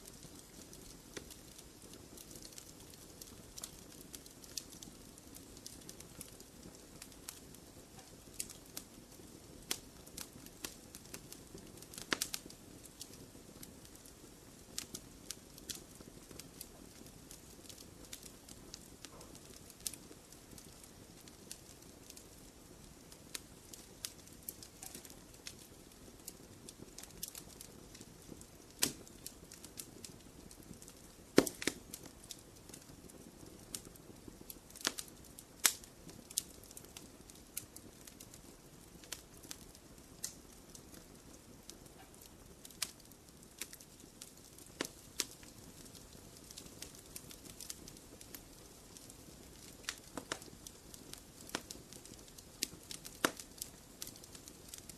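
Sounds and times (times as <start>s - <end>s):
low steady hiss: 0.0s - 54.9s
sharp pops of fire: 0.0s - 54.9s
wood fire crackling: 0.0s - 54.9s.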